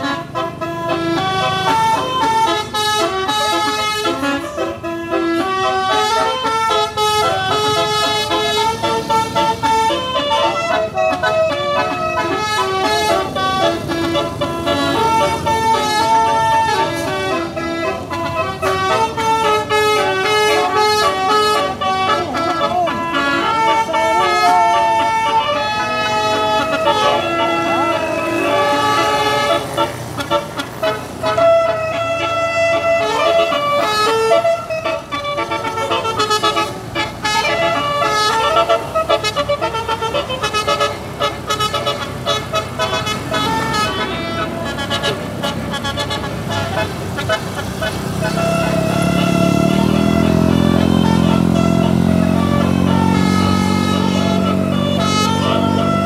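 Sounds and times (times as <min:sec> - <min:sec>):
musical air horn tune: 0:00.0 - 0:56.0.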